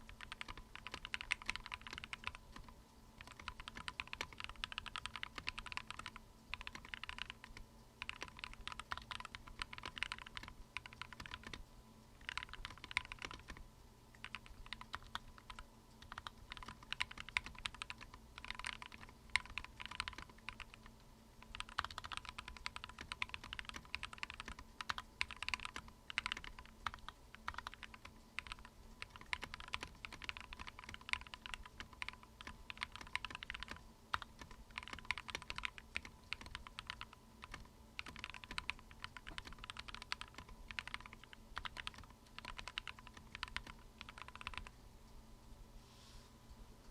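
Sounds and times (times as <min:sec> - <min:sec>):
mechanical keyboard typing: 0:00.0 - 0:44.8.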